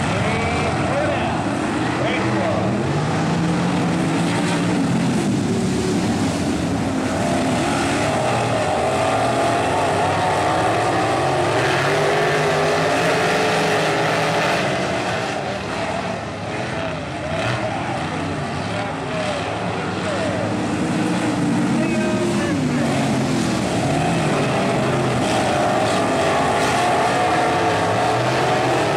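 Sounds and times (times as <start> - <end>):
race car engines: 0.0 - 28.9.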